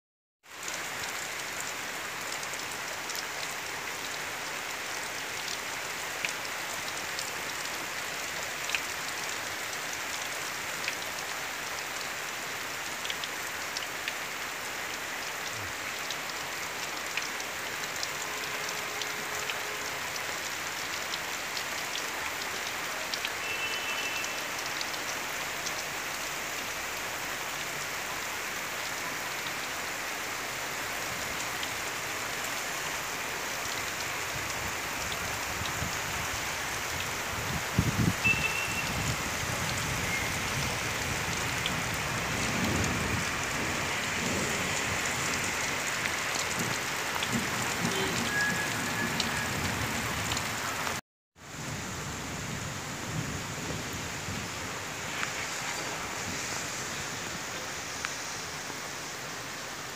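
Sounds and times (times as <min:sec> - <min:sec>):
raindrops ticking on surfaces: 0:00.4 - 0:59.9
rain hissing: 0:00.5 - 0:59.9.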